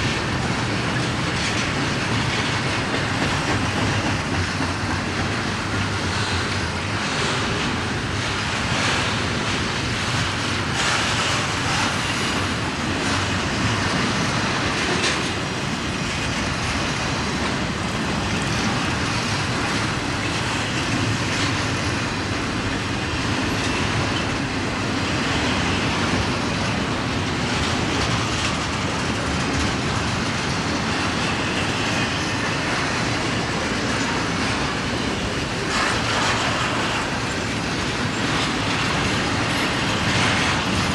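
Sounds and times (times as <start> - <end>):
train cars rumbling: 0.0 - 40.9
wheels clicking over rail joints: 0.0 - 40.9.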